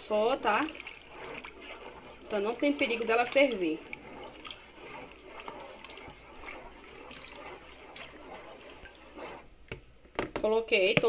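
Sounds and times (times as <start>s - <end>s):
liquid trickle and splash: 0.0s - 9.5s.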